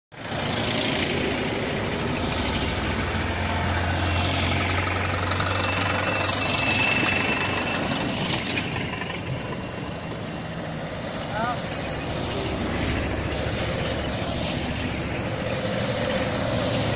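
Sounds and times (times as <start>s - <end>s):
vehicle engines driving past: 0.2s - 16.9s.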